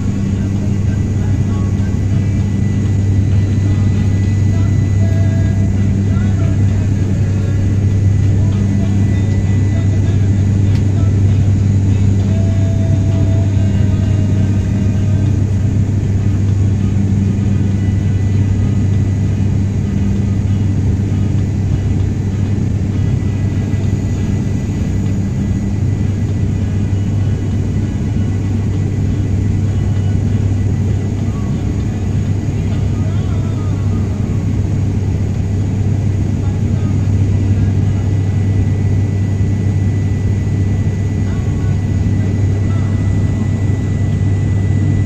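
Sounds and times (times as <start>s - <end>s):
airliner engine drone: 0.0s - 45.0s.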